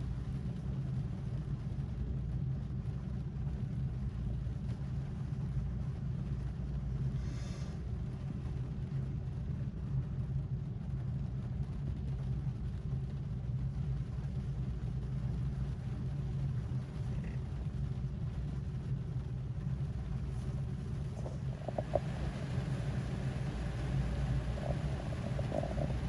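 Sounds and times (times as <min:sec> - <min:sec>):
rain on a car roof: 0:00.1 - 0:07.0, 0:08.0 - 0:26.0.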